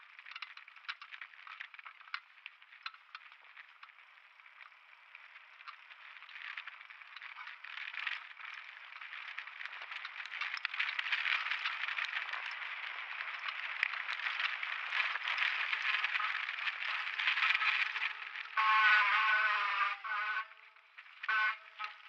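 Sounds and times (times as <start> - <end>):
mountain bike rattling downhill: 0.0 - 22.0.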